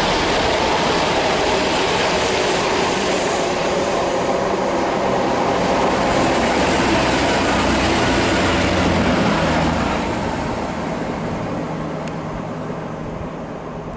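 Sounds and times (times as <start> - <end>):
rail rumble: 0.0 - 13.9
train passing with engine rumble: 0.0 - 13.9.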